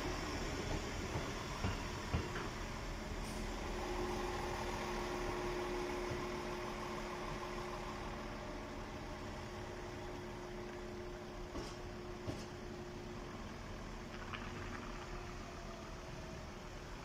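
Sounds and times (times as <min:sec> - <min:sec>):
train hum: 0:00.0 - 0:17.0
train rumbling past: 0:00.0 - 0:17.0.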